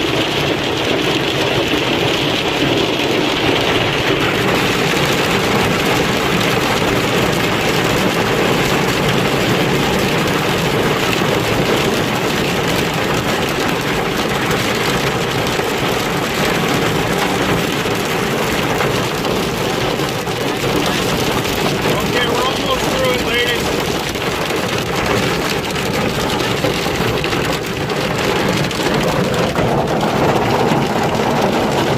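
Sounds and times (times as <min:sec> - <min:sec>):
hail and rain pelting down: 0:00.0 - 0:31.9.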